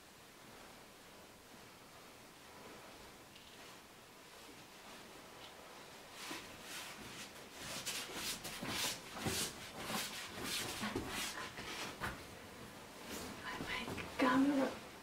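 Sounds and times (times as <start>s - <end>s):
costume fabric rustling: 1.9s - 15.0s.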